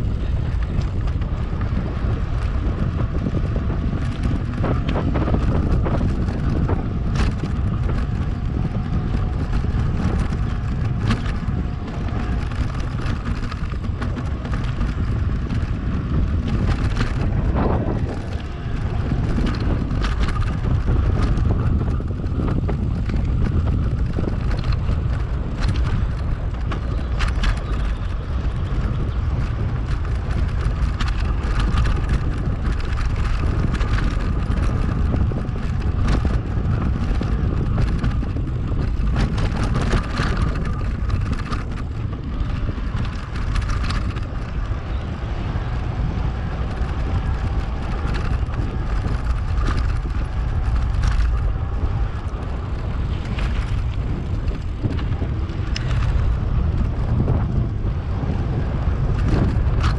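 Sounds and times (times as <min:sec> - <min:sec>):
bike rattles and clicks: 0:00.0 - 0:59.9
wind rushing over microphone: 0:00.0 - 0:59.9.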